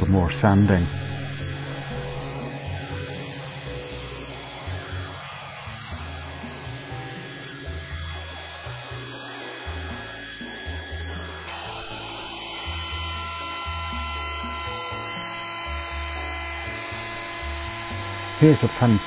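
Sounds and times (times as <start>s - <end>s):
orbital sander whine: 0.0s - 19.0s
router high steady whine: 0.0s - 19.0s.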